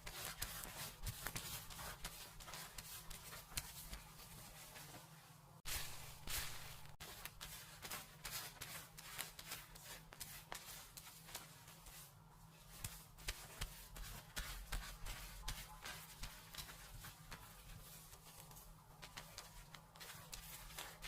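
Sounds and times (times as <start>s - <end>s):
hands scratching hair: 0.0s - 5.1s, 5.7s - 21.0s.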